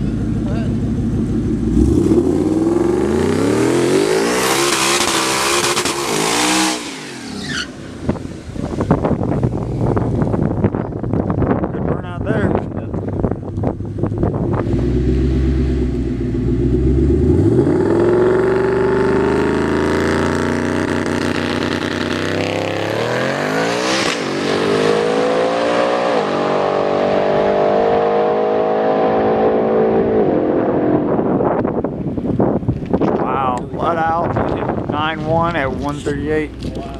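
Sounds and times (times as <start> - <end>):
car engine accelerating hard: 0.0 - 11.2, 13.0 - 31.6.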